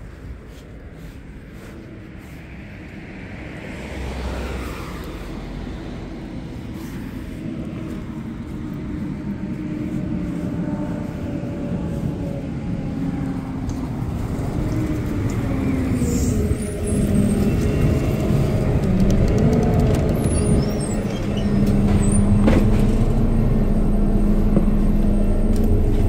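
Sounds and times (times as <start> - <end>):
car passing: 0.0 - 26.0
city bus pulling in: 0.0 - 26.0.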